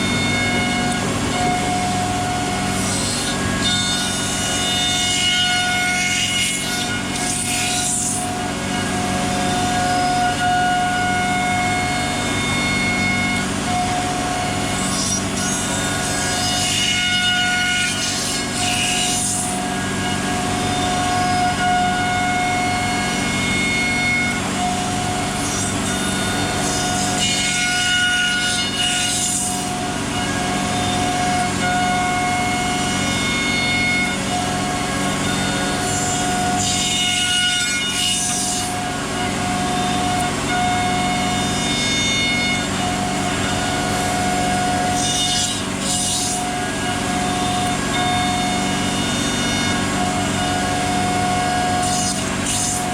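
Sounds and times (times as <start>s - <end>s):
bit cutting wood: 0.0s - 52.9s
router spindle whine: 0.0s - 52.9s.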